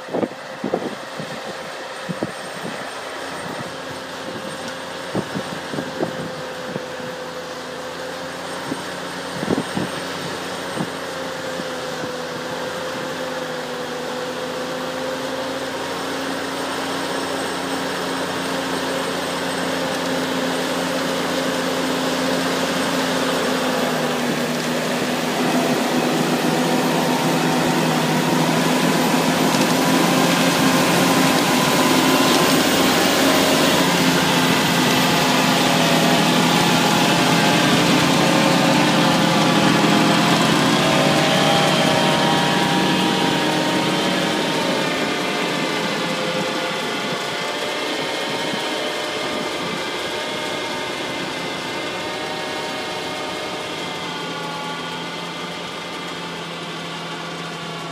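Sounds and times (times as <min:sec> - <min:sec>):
tiller working soil: 0:00.0 - 0:57.9
tractor engine under load: 0:00.0 - 0:57.9.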